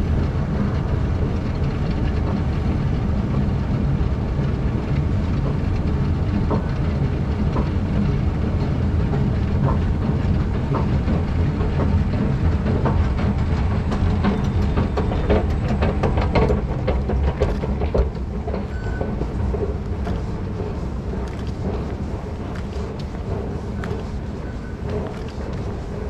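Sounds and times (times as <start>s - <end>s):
escalator rumble: 0.0s - 26.0s
escalator steps clicking: 0.0s - 26.0s.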